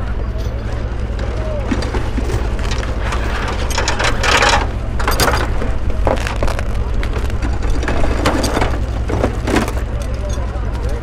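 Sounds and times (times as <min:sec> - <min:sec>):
low rumble: 0:00.0 - 0:11.0
muffled voices: 0:00.0 - 0:11.0.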